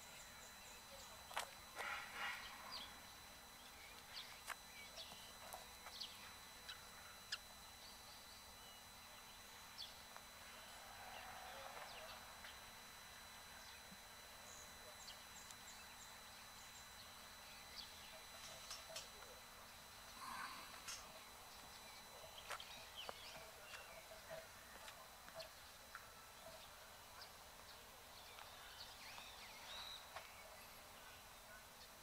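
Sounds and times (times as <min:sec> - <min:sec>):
faint bird chirps: 0:00.0 - 0:32.0.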